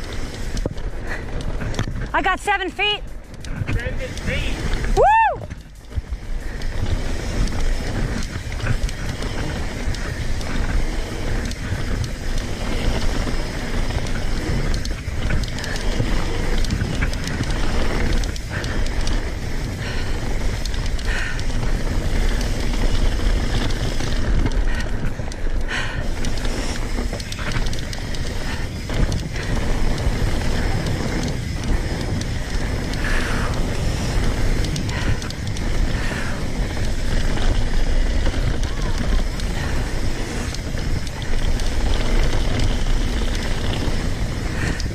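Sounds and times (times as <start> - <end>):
bike clicks and rattles: 0.0 - 44.9
tyres rushing on dirt: 0.0 - 44.9.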